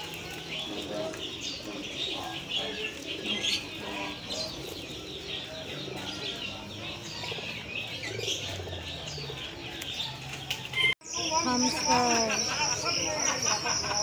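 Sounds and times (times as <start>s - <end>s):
pigeons cooing: 0.0s - 14.0s
songbirds chirping and twittering: 0.0s - 14.0s.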